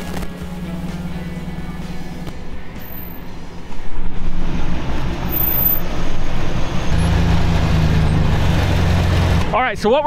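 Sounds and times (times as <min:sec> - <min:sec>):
deeper engine note: 0:00.0 - 0:09.6
engine idling: 0:00.0 - 0:10.0.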